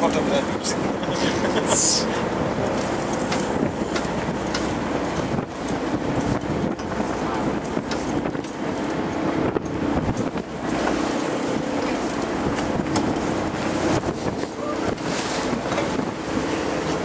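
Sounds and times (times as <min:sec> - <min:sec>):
boat engine humming: 0:00.0 - 0:17.0
sea water washing past: 0:00.0 - 0:17.0
wind buffeting microphone: 0:00.0 - 0:17.0.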